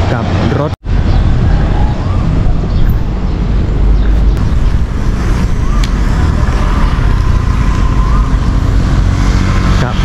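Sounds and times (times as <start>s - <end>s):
low vehicle engine rumble: 0.0s - 10.0s.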